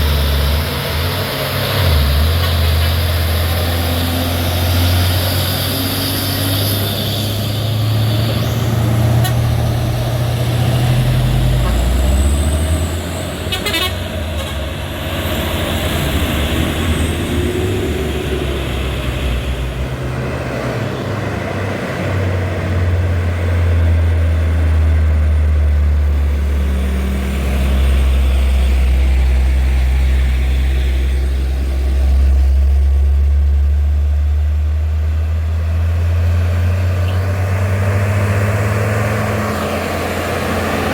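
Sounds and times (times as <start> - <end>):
heavy truck diesel engine: 0.0 - 40.9.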